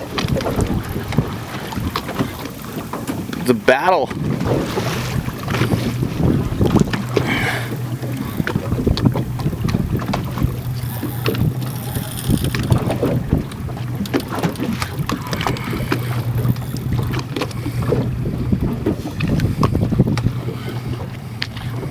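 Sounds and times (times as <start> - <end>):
wind noise on microphone: 0.0 - 3.4, 4.1 - 21.9
boat engine humming: 0.0 - 21.9.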